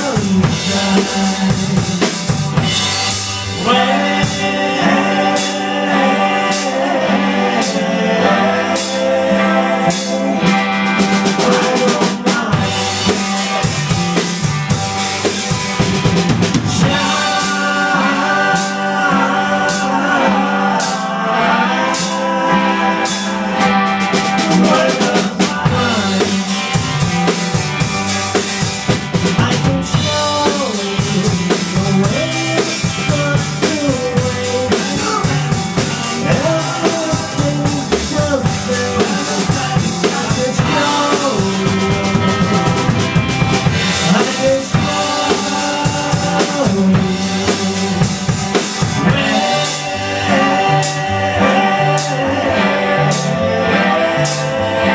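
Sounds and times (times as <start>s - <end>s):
drum kit beat: 0.0s - 54.9s
instrumental band playing: 0.0s - 54.9s.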